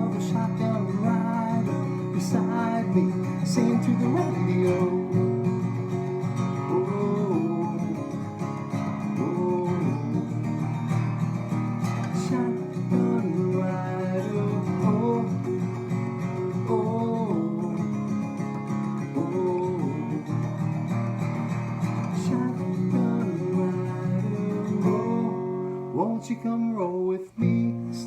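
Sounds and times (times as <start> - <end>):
strummed acoustic guitar: 0.0 - 28.0.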